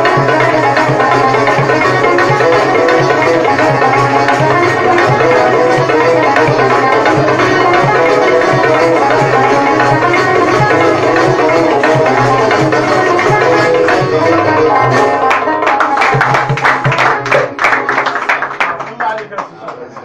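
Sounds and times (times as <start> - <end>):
lute and banjo music: 0.0 - 18.1.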